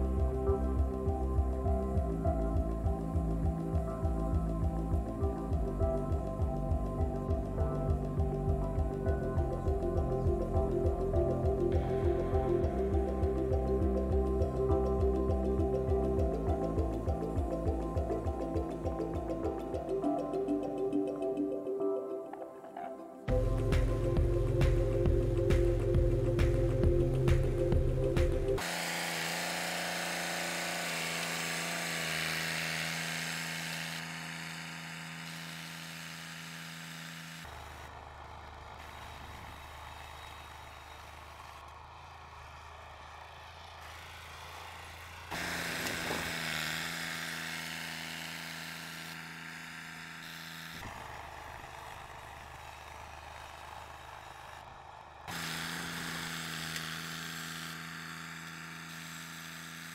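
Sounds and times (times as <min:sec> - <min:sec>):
tractor engine running: 0:00.0 - 0:21.4, 0:23.3 - 0:59.9.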